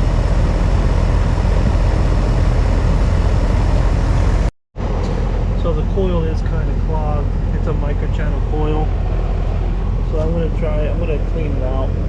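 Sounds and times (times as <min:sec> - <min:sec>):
condenser fan air rush: 0:00.0 - 0:12.0
low compressor hum: 0:00.0 - 0:12.0.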